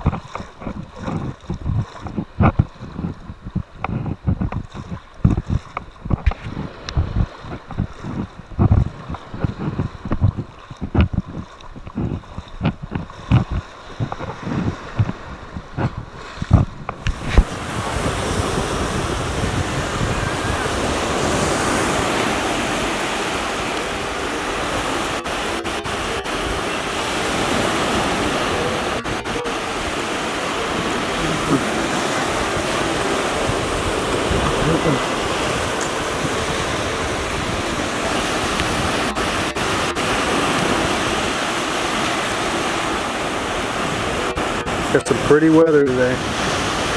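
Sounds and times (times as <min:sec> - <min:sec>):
small surf waves breaking: 0:00.0 - 0:46.9
wind buffeting microphone: 0:00.0 - 0:46.9.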